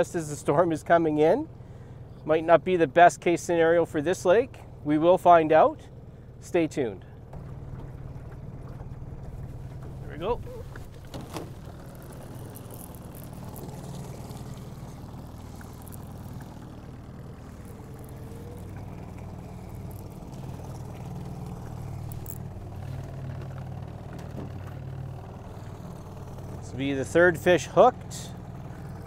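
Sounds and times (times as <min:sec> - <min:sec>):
outboard motor humming: 0:00.0 - 0:29.0.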